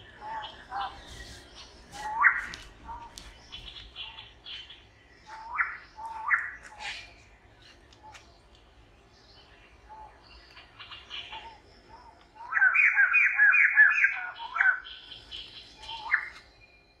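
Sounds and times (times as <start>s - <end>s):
bird calling: 0.0s - 8.6s, 9.4s - 16.6s.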